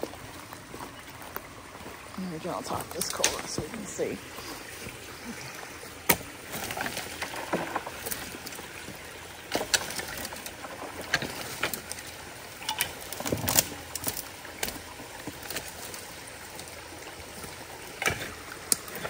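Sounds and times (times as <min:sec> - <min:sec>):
creek water running: 0:00.0 - 0:19.0
knocks and splashes of debris: 0:02.6 - 0:19.0.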